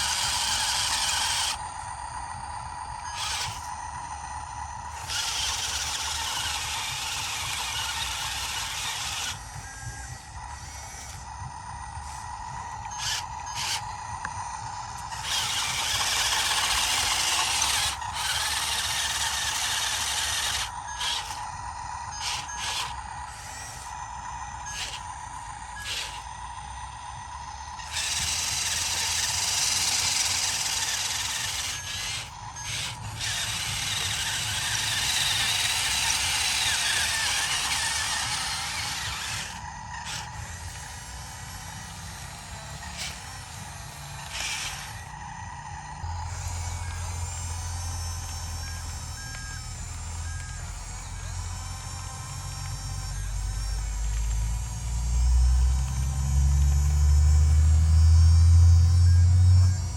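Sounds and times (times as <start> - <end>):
excavator engine whine and rumble: 0.0 - 59.9.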